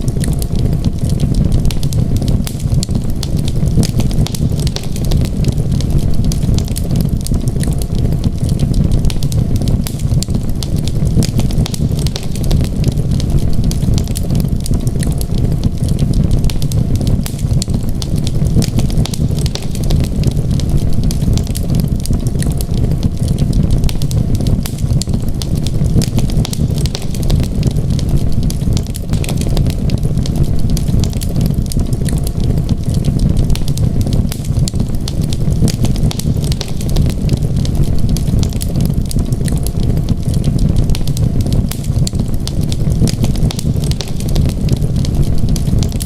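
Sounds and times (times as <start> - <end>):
low rumble of flames: 0.0 - 46.0
wood fire crackling: 0.0 - 46.0.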